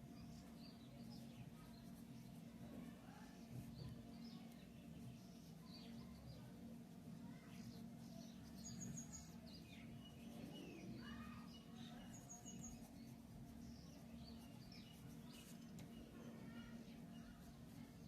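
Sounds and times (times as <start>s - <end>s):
faint birds chirping: 0.0s - 18.0s
low steady hum: 0.0s - 18.0s.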